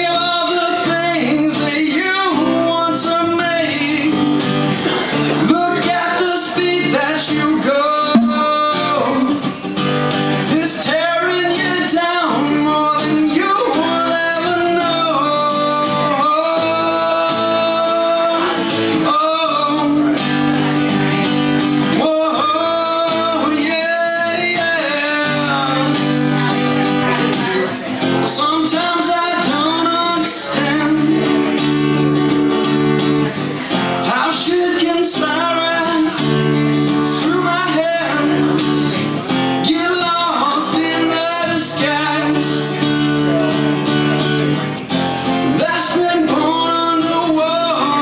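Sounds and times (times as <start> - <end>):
man singing: 0.0 - 9.7, 10.4 - 20.8, 21.8 - 32.2, 33.2 - 48.0
strummed guitar: 0.0 - 48.0.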